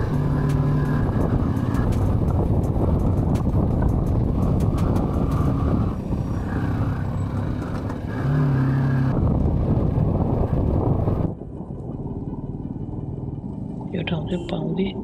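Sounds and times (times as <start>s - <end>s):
motorcycle engine: 0.0s - 15.0s
wind rumble on microphone: 0.0s - 15.0s.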